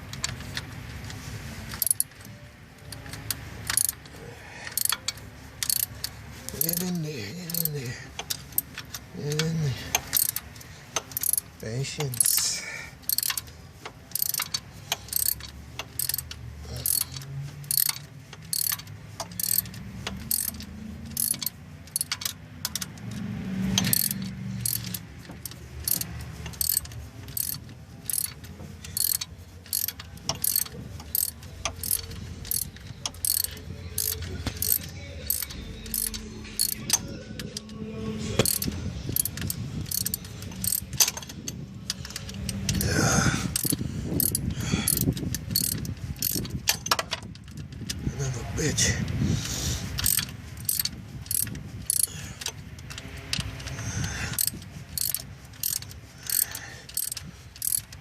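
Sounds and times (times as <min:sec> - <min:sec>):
ratchet wrench clicking: 0:00.0 - 0:37.8, 0:38.4 - 0:58.0.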